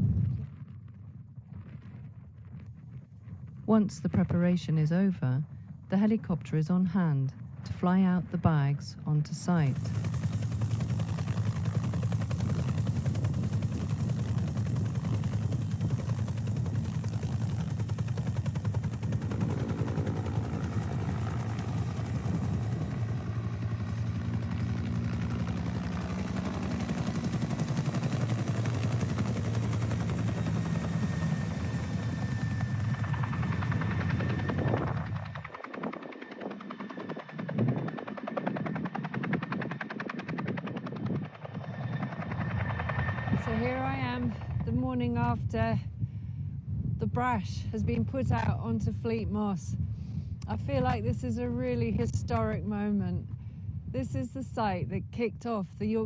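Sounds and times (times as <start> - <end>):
helicopter rotor beating: 3.4 - 46.0, 46.9 - 56.0.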